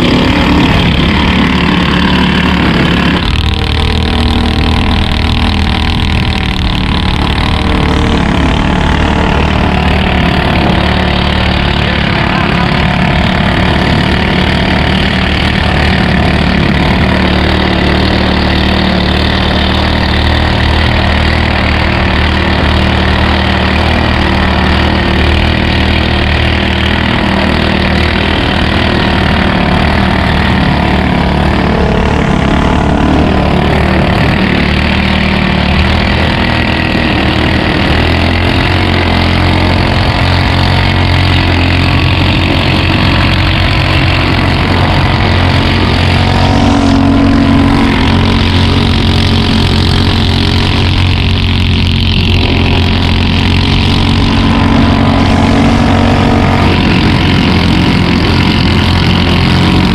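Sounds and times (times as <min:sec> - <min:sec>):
speedboat engine running: 0:00.0 - 0:59.9.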